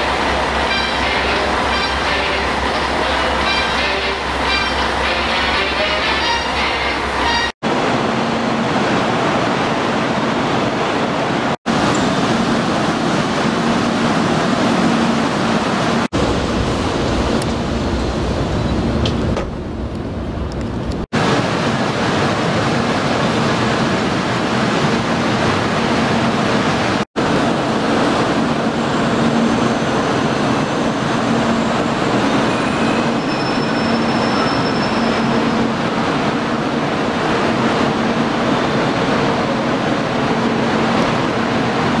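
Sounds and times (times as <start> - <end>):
train running: 0.0 - 42.0.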